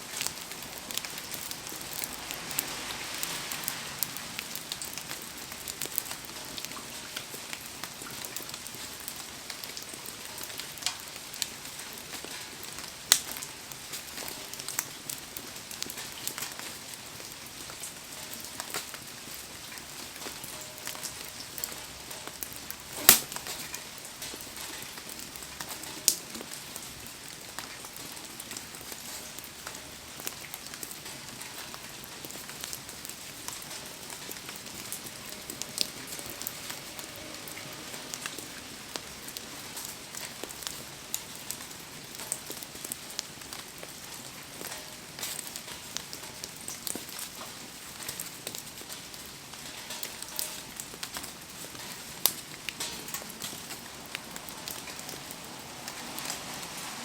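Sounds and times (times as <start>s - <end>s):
heavy rain: 0.0s - 57.0s
wood fire crackling and popping: 0.0s - 57.0s.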